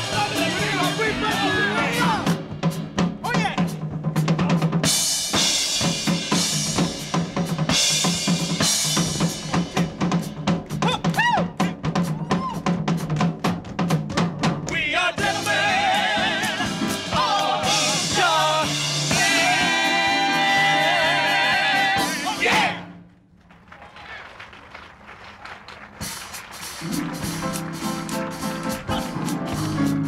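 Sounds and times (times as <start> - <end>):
drum kit playing: 0.0 - 22.8, 25.8 - 30.0.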